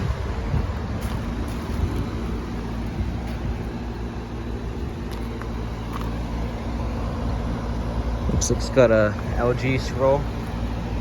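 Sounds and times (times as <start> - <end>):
compressor hum: 0.0 - 11.0
fan noise: 0.0 - 11.0.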